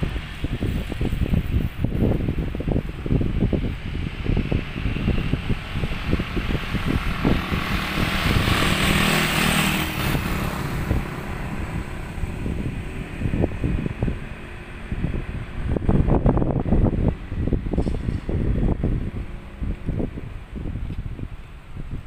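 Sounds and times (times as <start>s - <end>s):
wind buffeting microphone: 0.0s - 22.0s
motorcycles riding past: 3.0s - 20.7s.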